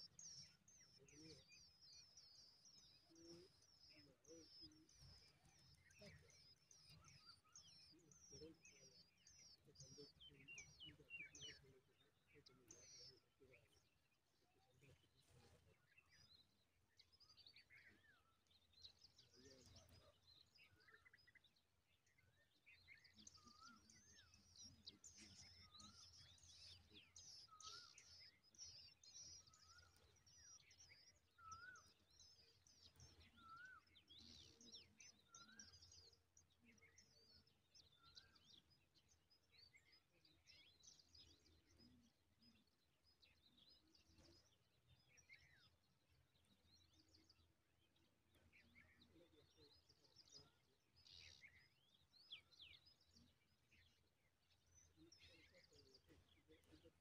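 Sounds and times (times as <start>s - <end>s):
small birds twittering: 0.0s - 57.0s.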